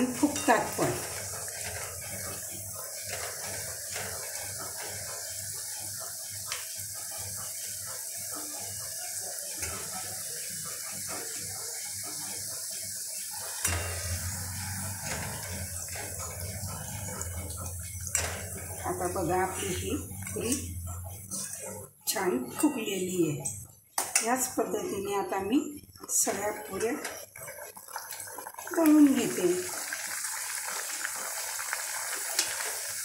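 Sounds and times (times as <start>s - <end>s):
dough deep-frying in oil: 0.0s - 23.0s, 24.0s - 33.0s.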